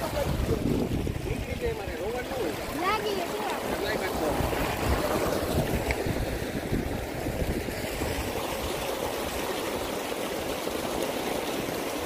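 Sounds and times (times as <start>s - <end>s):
small waterfall rushing splash: 0.0s - 12.0s.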